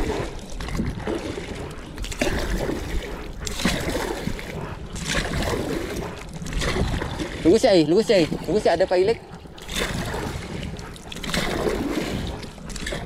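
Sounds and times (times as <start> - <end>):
paddle splashing in water: 0.0 - 13.0
water trickling off paddle: 0.0 - 13.0.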